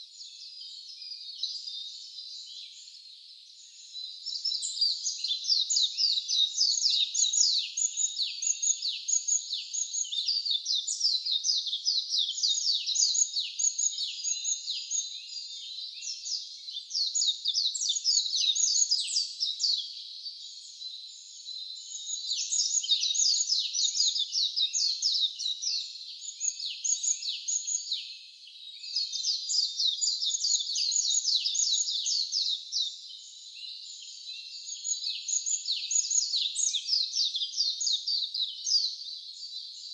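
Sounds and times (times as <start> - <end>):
chorus of high-pitched chirps: 0.0 - 39.9.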